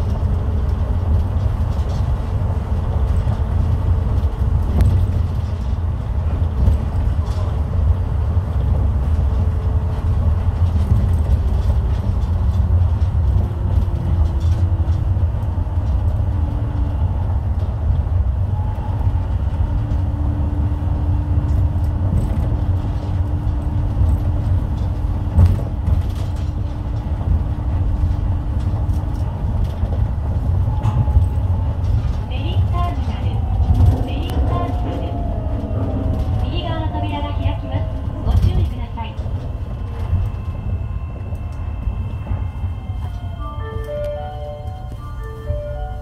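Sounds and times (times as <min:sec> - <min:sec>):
train rumble: 0:00.0 - 0:46.0.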